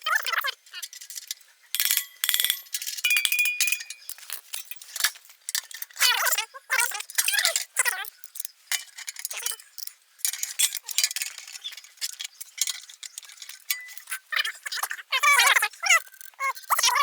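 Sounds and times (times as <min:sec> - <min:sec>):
metal parts clicking and clinking: 0:00.1 - 0:17.0.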